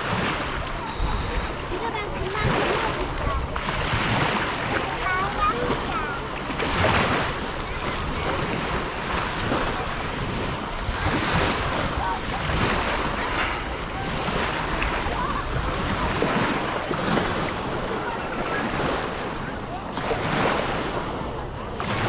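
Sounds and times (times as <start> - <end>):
sea waves breaking on beach: 0.0 - 22.0
wind buffeting microphone: 0.0 - 22.0.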